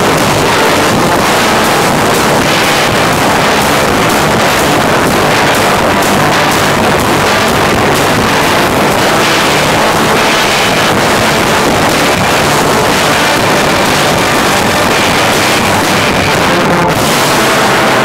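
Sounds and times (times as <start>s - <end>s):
distorted live rock band: 0.0s - 18.0s.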